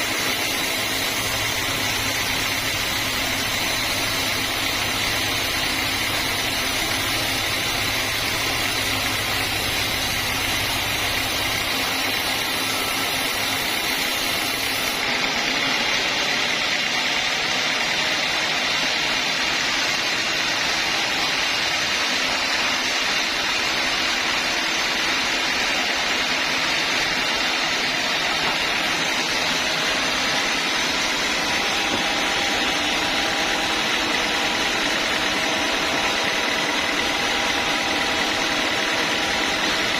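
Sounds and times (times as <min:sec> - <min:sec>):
band sawmill drone: 0:00.0 - 0:39.9.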